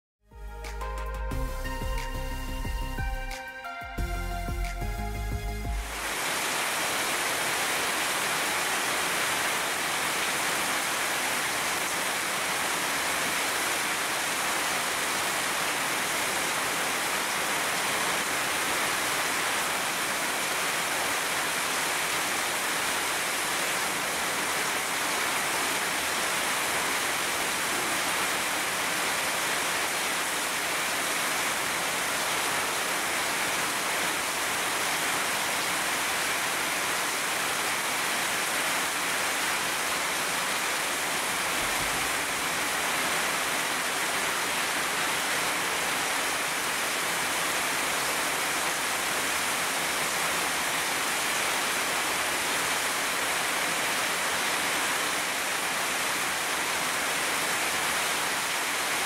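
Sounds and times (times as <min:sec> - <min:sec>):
heavy rain on leafy trees: 0:00.5 - 0:59.0.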